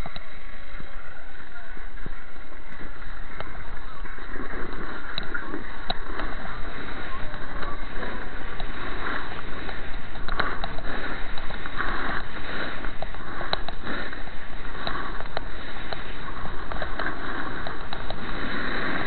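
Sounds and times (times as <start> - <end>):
wind rushing over microphone: 0.0 - 19.0
skis scraping over snow: 2.2 - 19.0.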